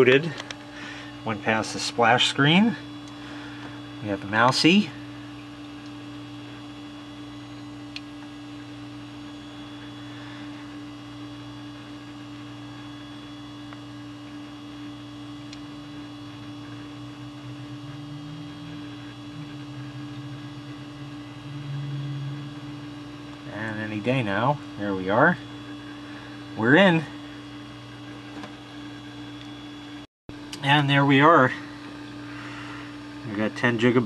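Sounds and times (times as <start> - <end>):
computer electrical hum: 0.0 - 34.0
low wavering hum: 0.0 - 34.0.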